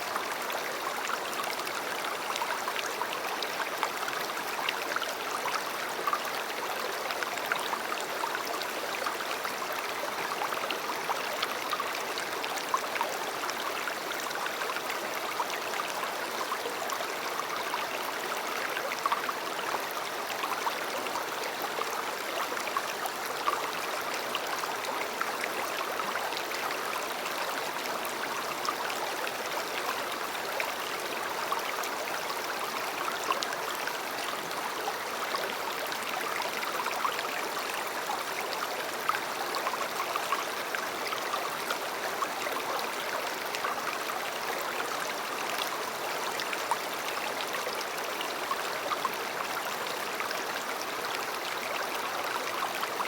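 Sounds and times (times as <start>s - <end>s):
stream flowing over stones: 0.0s - 53.0s.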